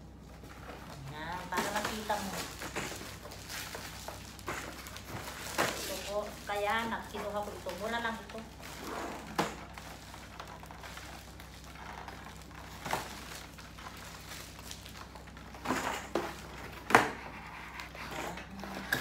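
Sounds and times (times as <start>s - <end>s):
plastic wrapping crinkling: 0.1s - 18.8s.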